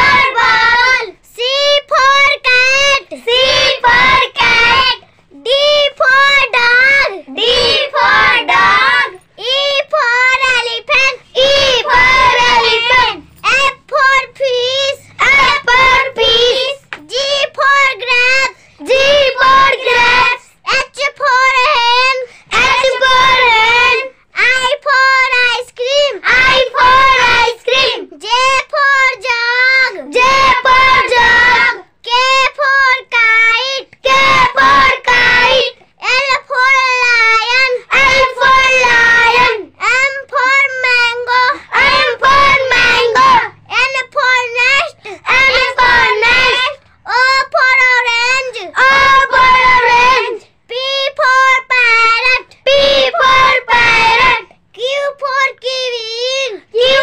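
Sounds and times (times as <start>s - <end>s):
child singing: 0.0s - 57.0s.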